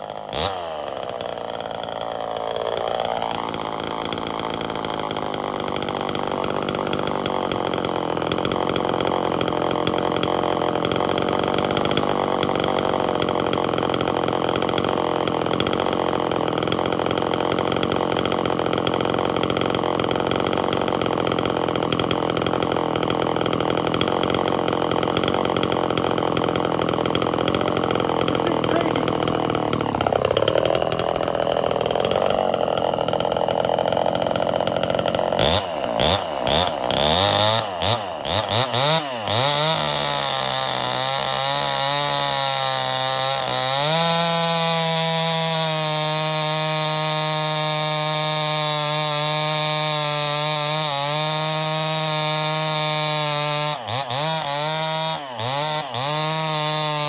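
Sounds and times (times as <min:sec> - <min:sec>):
chainsaw running: 0:00.0 - 0:57.0
chainsaw throttle blips: 0:00.0 - 0:57.0.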